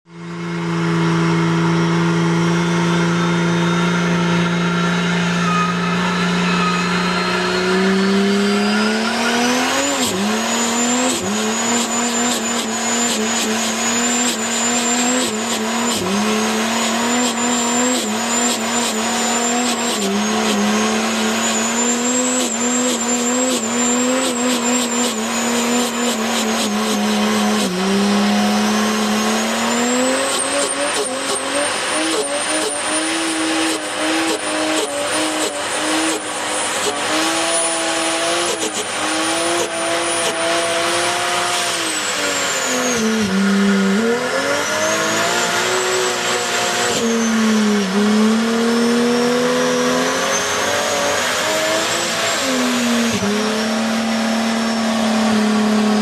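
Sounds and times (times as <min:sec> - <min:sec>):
car engine revving: 0:00.1 - 0:56.0
high turbo whistle: 0:00.1 - 0:56.0.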